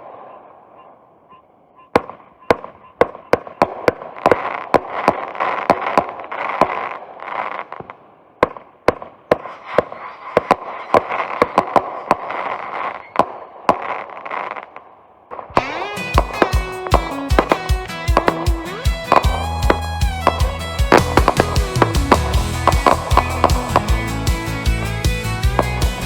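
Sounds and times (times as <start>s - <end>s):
fireworks bangs: 0.0s - 24.9s
fireworks hissing and crackling: 3.4s - 14.8s, 15.6s - 26.0s.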